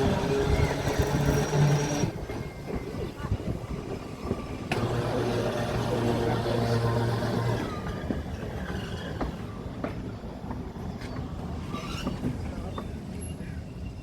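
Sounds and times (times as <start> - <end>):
electric tram hum: 0.0 - 14.0
tram ride rumbling: 0.0 - 14.0.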